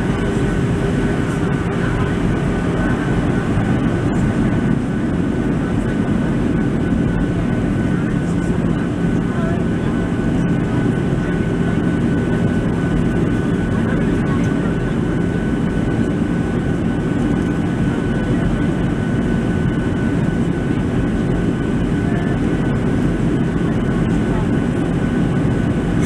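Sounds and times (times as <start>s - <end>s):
airliner cabin rumble: 0.0s - 26.0s
thin steady whine: 0.0s - 26.0s.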